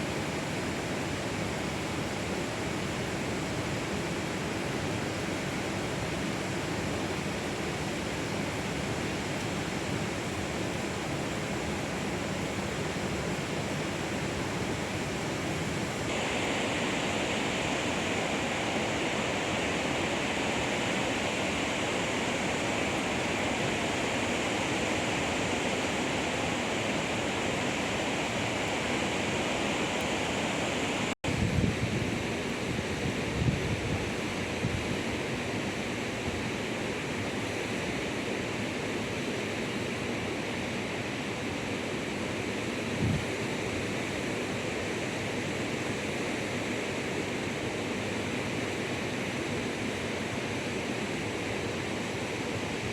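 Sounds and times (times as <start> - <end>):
drizzling rain hiss: 0.0 - 52.9.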